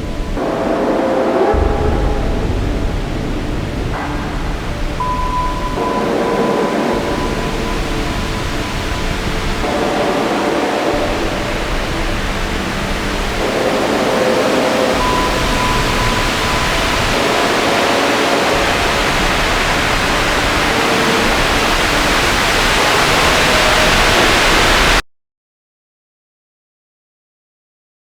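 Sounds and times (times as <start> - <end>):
loud steady hiss: 0.0 - 25.0.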